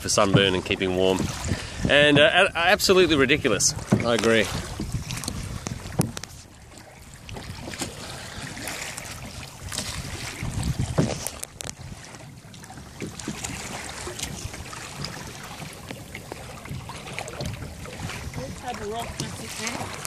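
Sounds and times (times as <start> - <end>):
water lapping against kayak hull: 0.0 - 20.0
wind buffeting microphone: 0.0 - 20.0.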